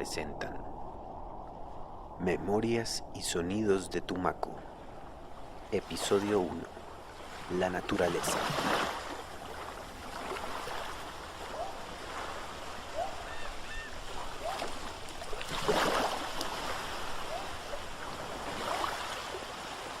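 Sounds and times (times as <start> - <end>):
waves washing: 1.6 - 20.0.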